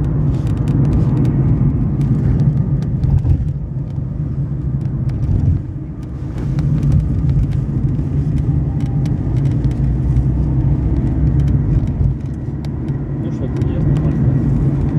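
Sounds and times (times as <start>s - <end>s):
car interior clicks and creaks: 0.0s - 14.9s
low road rumble: 0.0s - 14.9s.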